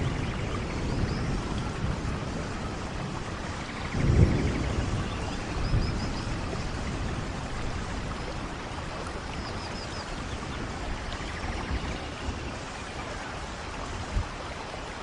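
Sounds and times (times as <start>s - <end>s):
low rumble of thunder: 0.0s - 15.0s
steady rain: 0.0s - 15.0s.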